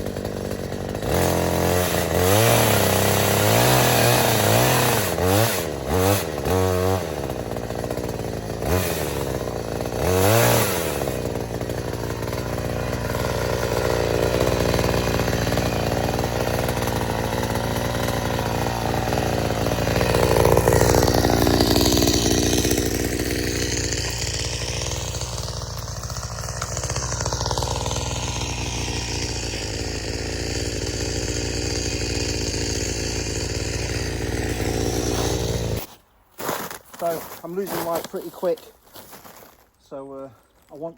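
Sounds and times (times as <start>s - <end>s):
chainsaw revving and cutting wood: 0.0s - 40.9s.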